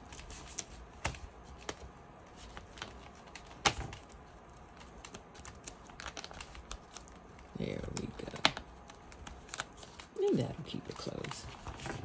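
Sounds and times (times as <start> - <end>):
hands handling a book: 0.0 - 12.0.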